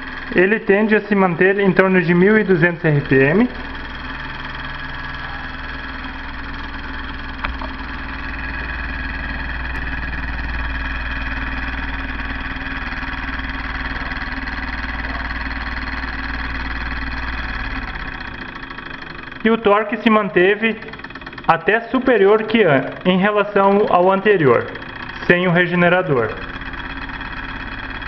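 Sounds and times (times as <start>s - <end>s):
small engine running with fast rhythm: 0.0s - 28.0s.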